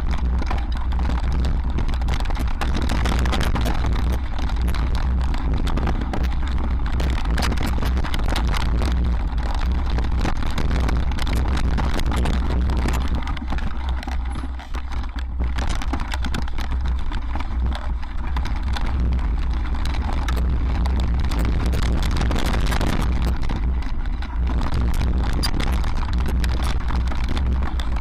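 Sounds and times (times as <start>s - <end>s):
wind buffeting microphone: 0.0s - 14.5s, 15.1s - 28.0s
mountain bike rattling over rocks: 0.0s - 28.0s.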